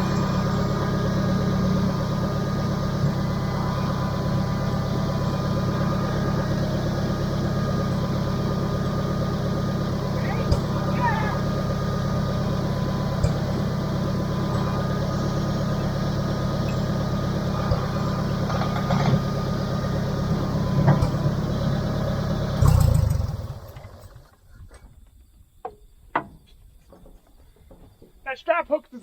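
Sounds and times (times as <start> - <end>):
engine idling and shutting off: 0.0 - 28.2.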